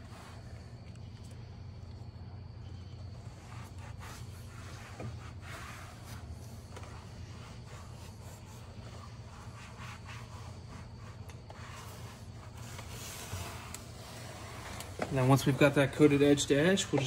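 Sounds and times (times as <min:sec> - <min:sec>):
steady low hum: 0:00.0 - 0:17.0
applicator pad rubbing plastic: 0:03.0 - 0:17.0.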